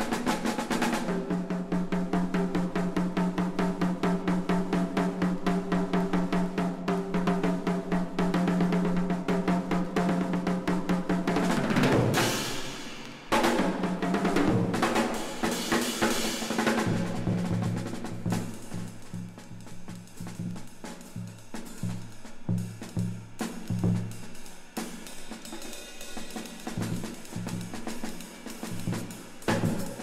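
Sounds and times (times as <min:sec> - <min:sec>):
drum kit snare rolls: 0:00.0 - 0:30.0.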